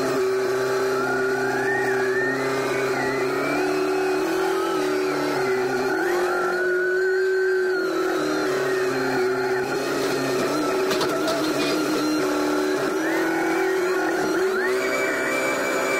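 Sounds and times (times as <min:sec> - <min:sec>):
high wavering whine: 0:00.0 - 0:15.9
telehandler engine running: 0:00.0 - 0:15.9.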